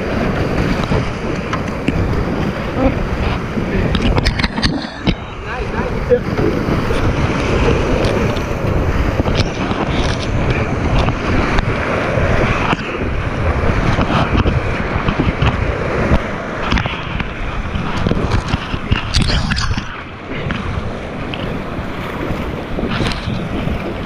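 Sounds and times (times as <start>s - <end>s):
paddle and wave splashes: 0.0s - 24.0s
whitewater rapids rushing: 0.0s - 24.0s.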